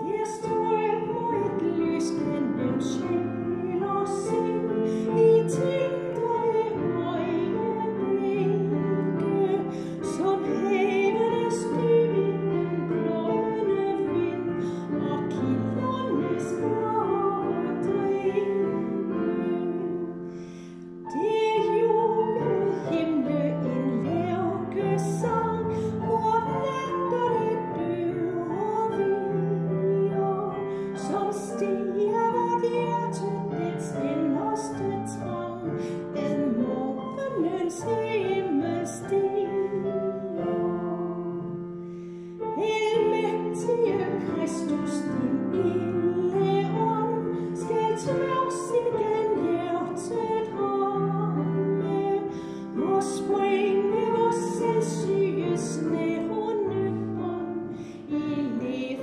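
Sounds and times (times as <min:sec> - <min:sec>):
woman singing a hymn: 0:00.0 - 0:20.2, 0:21.0 - 0:41.6, 0:42.4 - 0:59.0
piano accompaniment: 0:00.0 - 0:59.0.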